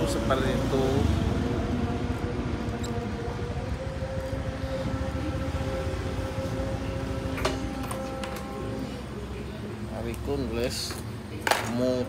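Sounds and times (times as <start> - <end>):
low street rumble: 0.0 - 12.0
steady droning hum: 0.0 - 12.0.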